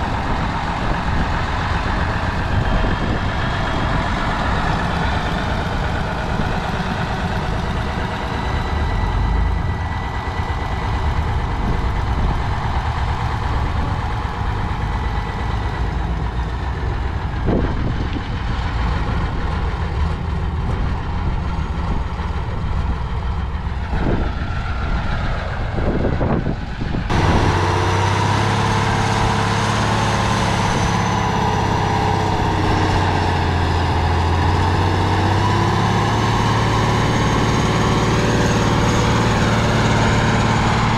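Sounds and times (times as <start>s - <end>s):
diesel truck engines rumbling: 0.0s - 40.9s.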